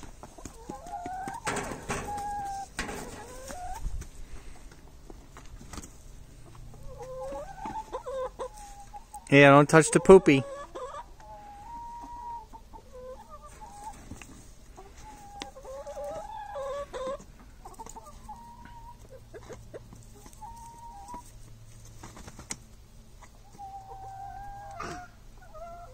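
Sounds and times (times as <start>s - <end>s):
hens clucking: 0.0s - 25.9s.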